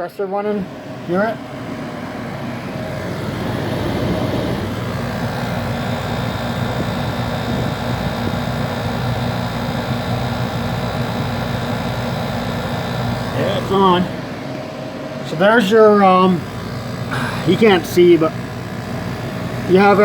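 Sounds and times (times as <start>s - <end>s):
air conditioner compressor humming: 0.0s - 20.0s
fan rushing: 0.0s - 20.0s.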